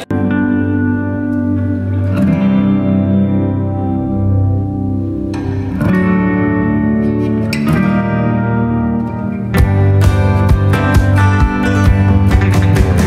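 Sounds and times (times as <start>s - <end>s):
effects-laden guitar chords: 0.0s - 13.0s.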